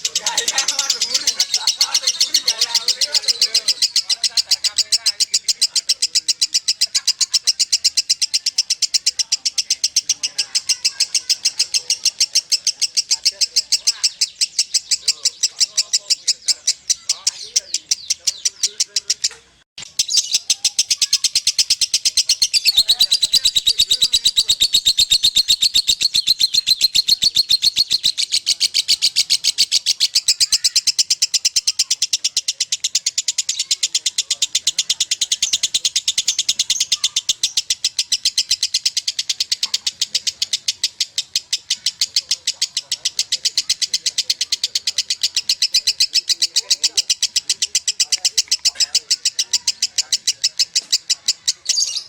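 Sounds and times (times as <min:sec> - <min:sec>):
lovebird chattering song: 0:00.0 - 0:52.0.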